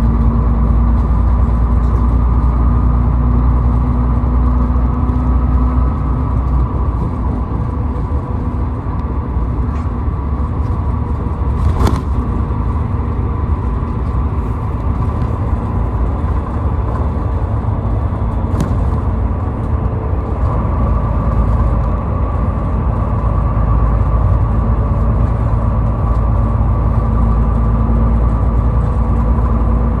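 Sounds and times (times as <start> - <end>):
car driving at highway speed: 0.0 - 30.0.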